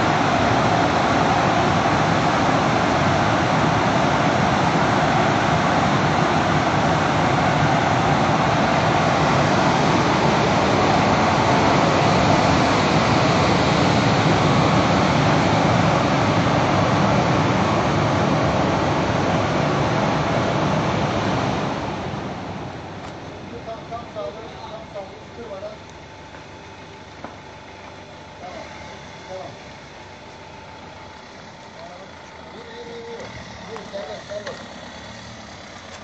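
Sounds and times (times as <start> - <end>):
car wash machine running: 0.0 - 36.0.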